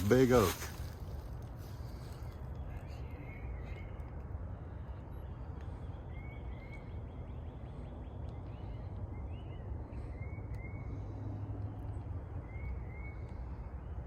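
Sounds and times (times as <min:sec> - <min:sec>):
low outdoor rumble: 0:00.0 - 0:14.0
songbird calling: 0:01.9 - 0:14.0.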